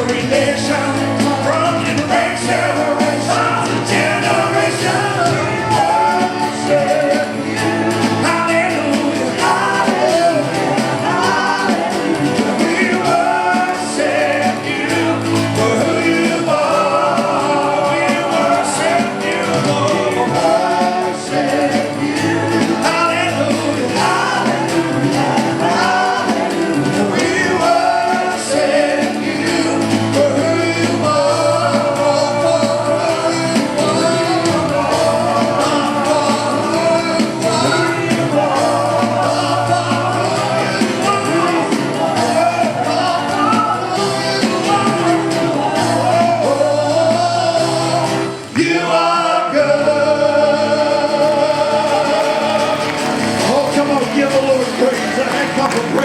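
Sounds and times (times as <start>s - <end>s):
band playing: 0.0s - 56.0s
voices singing: 0.0s - 56.0s.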